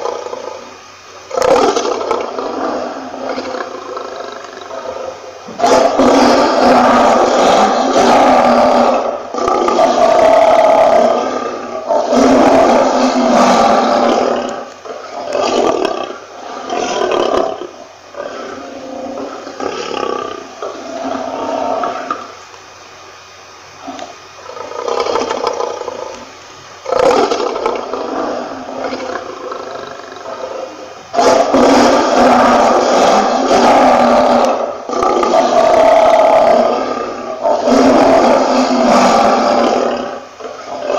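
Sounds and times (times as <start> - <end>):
lion roaring: 1.3 - 22.4, 23.8 - 40.9.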